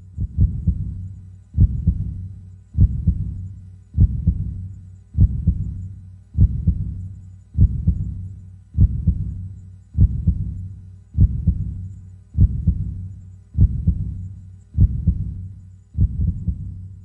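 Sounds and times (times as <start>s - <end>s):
heartbeat: 0.0s - 17.0s.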